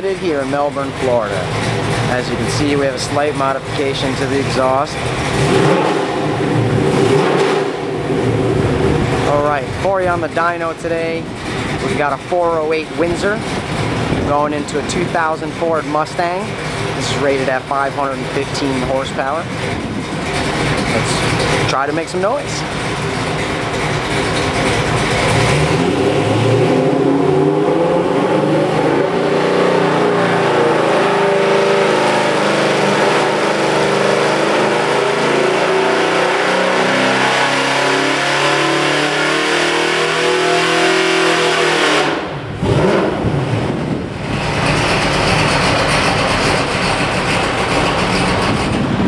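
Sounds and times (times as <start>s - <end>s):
engine revving at full throttle: 0.0s - 49.0s.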